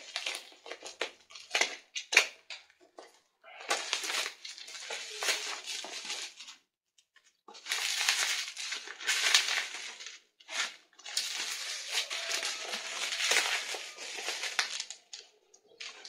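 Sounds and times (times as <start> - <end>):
plastic wrapping crackling: 0.0 - 2.4, 3.7 - 6.7, 7.5 - 16.0.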